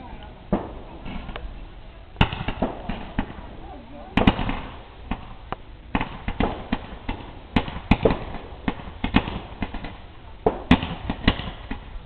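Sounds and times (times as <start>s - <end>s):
fireworks popping and banging: 0.5s - 1.5s, 2.2s - 12.0s.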